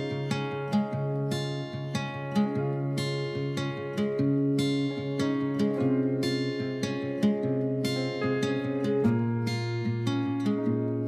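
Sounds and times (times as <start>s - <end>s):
plucked strings music: 0.0s - 11.0s.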